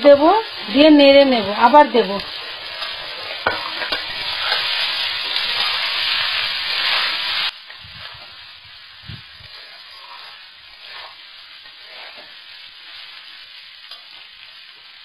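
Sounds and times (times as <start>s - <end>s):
rice sizzling in hot oil: 0.0s - 15.0s.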